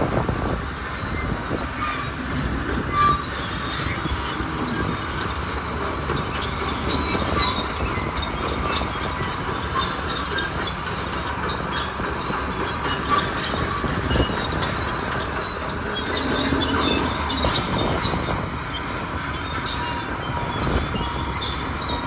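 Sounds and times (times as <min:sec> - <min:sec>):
bulldozer diesel engine running: 0:00.0 - 0:22.0
steel tracks clattering: 0:00.0 - 0:22.0.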